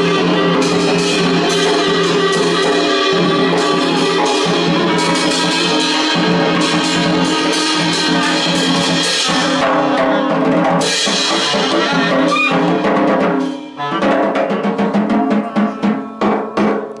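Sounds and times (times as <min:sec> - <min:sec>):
drum hits: 0:00.0 - 0:17.0
live band playing: 0:00.0 - 0:17.0.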